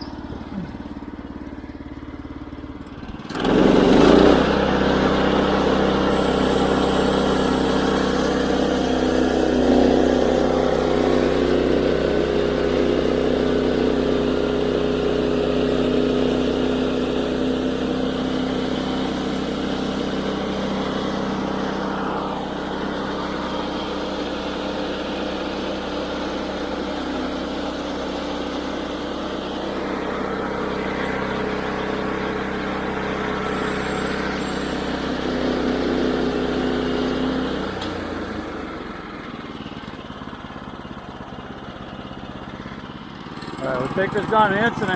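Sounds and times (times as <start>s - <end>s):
gasoline engine running: 0.0s - 44.9s
band saw cutting log: 3.0s - 40.0s, 42.7s - 44.9s.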